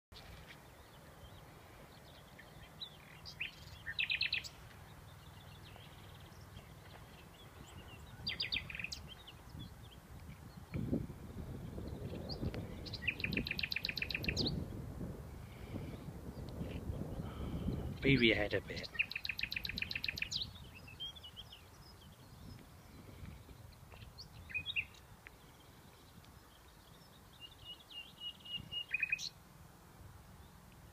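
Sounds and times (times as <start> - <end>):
nightingale singing: 0.2 - 10.9, 11.8 - 14.6, 18.2 - 29.4.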